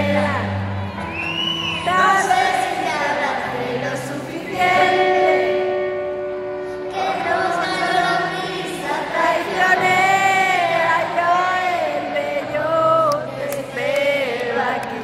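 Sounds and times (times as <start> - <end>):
girl singing into microphone: 1.9 - 6.1, 6.7 - 15.0.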